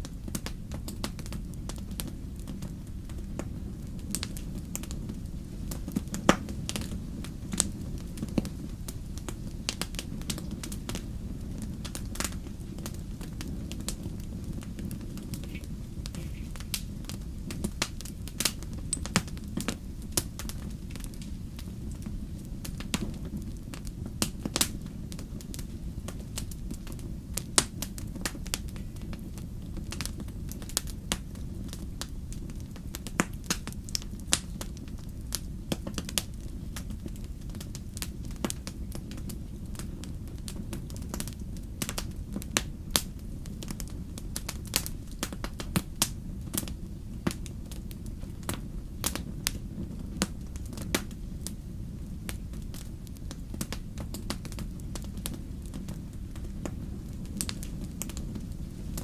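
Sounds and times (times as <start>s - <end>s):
fire low rumble: 0.0s - 59.0s
wood crackling and popping: 0.0s - 59.0s.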